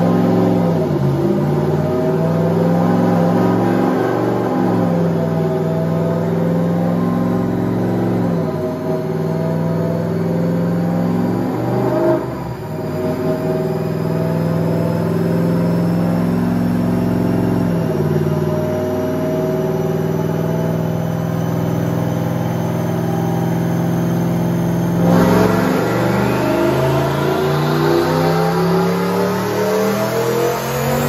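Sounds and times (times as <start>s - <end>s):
car engine running on dyno: 0.0s - 31.0s.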